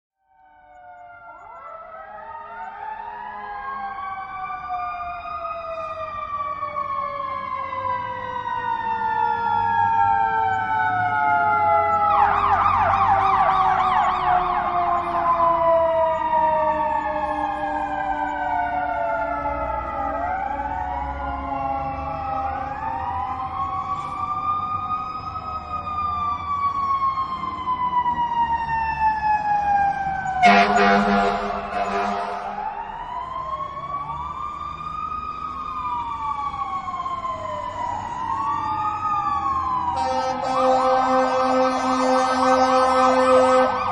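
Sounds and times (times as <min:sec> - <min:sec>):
emergency sirens wailing: 0:00.2 - 0:43.9.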